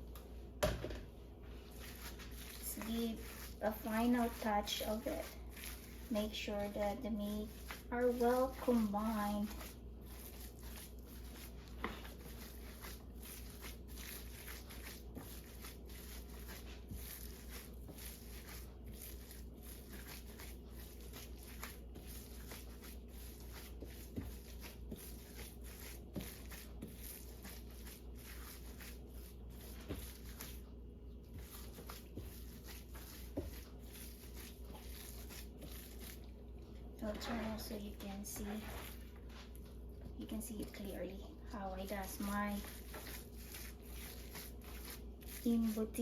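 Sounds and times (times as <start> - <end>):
steady low hum: 0.0 - 46.0
hands kneading raw meat: 1.4 - 46.0.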